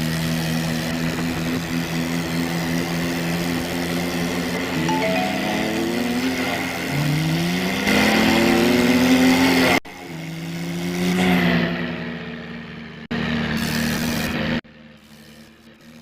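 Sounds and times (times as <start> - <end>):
engine revving: 0.0 - 14.6.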